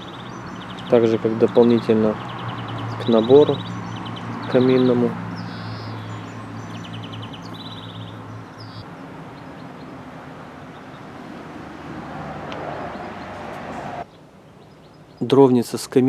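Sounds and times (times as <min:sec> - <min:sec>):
bird chirping: 0:00.0 - 0:16.0
outdoor background noise: 0:00.0 - 0:16.0.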